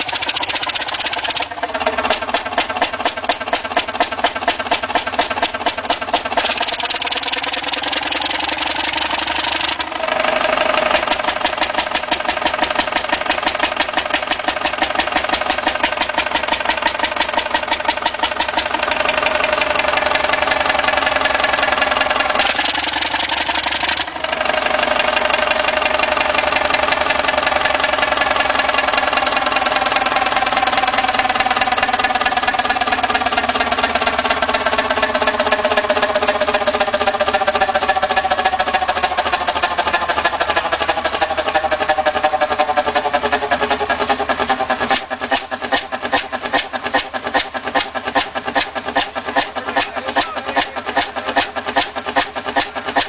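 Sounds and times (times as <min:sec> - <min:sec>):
old engine running: 0:00.0 - 0:53.0.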